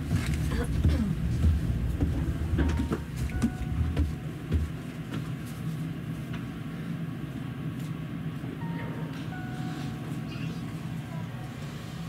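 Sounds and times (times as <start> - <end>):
electric train interior hum: 0.0 - 12.0.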